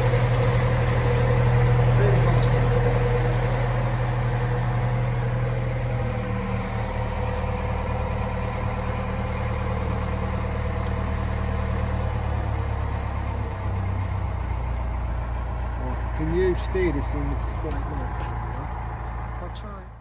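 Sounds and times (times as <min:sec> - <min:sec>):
boat engine running low hum: 0:00.0 - 0:20.0.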